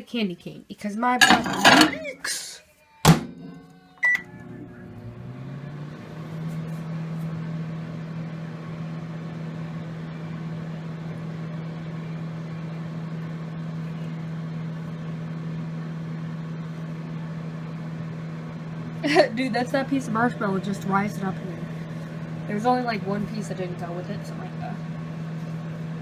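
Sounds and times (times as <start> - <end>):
microwave oven humming: 1.2 - 26.0.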